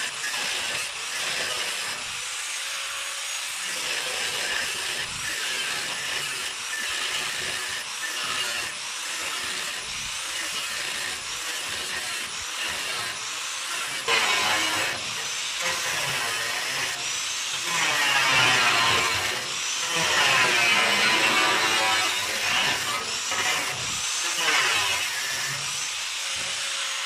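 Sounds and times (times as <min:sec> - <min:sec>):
jigsaw cutting metal: 0:00.0 - 0:27.0.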